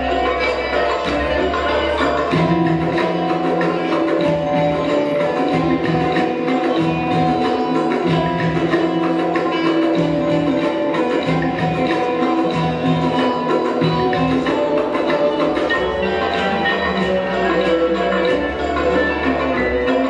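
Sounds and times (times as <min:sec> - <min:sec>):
folk dance music: 0:00.0 - 0:20.0.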